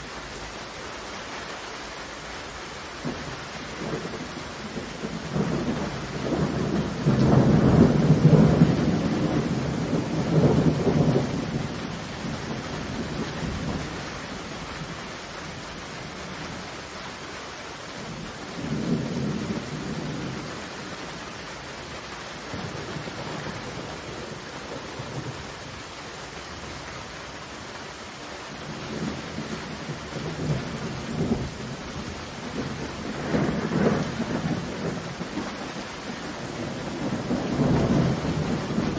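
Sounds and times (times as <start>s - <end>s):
heavy rain: 0.0s - 38.9s
thunder rumbling: 3.0s - 16.7s, 17.9s - 25.8s, 28.5s - 38.9s.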